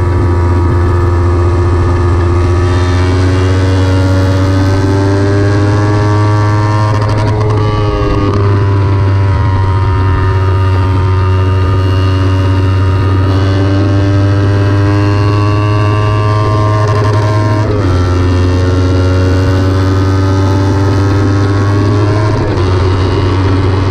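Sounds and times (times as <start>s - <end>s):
motorcycle engine at high revs: 0.0s - 23.9s.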